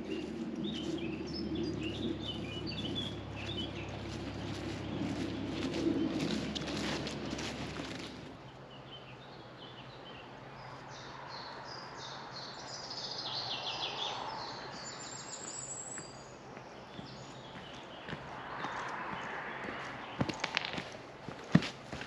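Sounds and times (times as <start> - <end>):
songbird singing: 0.0 - 21.6
outdoor background noise: 0.0 - 22.0.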